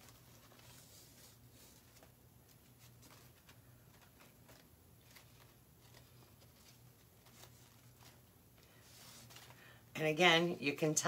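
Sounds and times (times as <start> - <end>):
ribbon rustling and ticking: 0.0 - 10.2.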